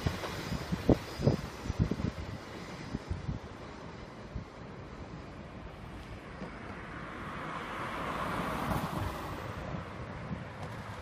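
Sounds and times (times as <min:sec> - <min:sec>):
train wheels rushing on rail: 0:00.0 - 0:11.0.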